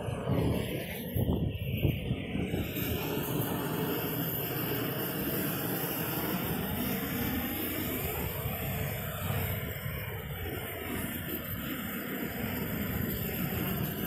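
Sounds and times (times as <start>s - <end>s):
roofing torch flame rushing: 0.0s - 14.0s.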